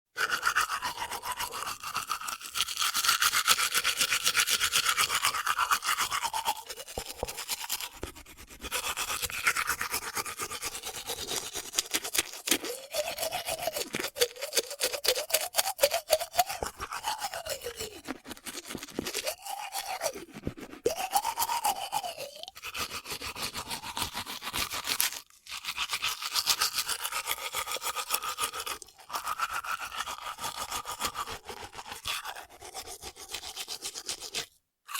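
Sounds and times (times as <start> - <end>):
toothbrush scrubbing teeth: 0.2 - 34.9.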